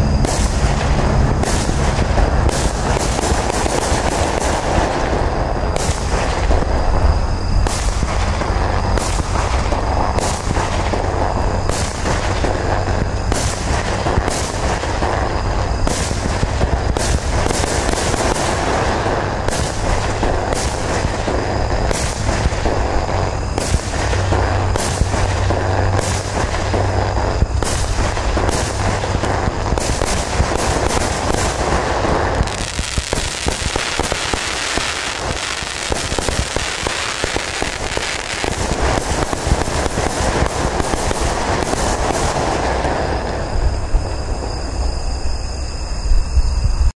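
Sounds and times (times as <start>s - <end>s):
fireworks reports: 0.0s - 45.8s
fireworks hiss: 0.0s - 46.2s.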